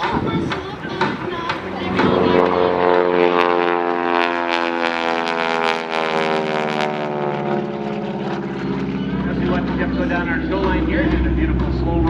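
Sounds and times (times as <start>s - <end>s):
propeller plane flying by: 0.0s - 12.0s.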